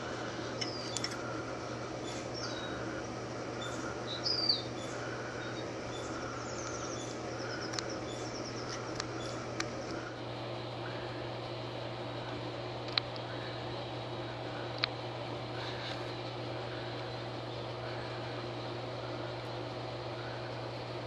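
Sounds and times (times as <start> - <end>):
birds chirping: 0.0 - 20.6
steady low hum: 0.0 - 21.0.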